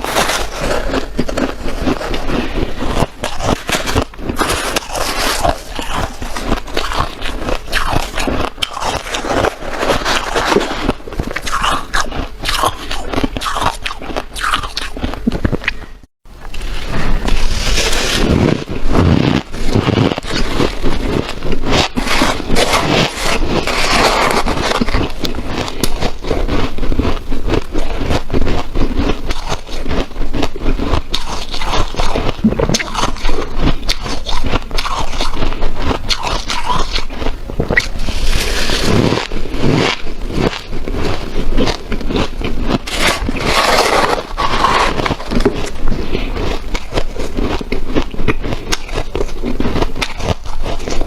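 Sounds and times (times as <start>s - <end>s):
chewing crunchy ice: 0.0s - 16.6s, 17.2s - 51.0s.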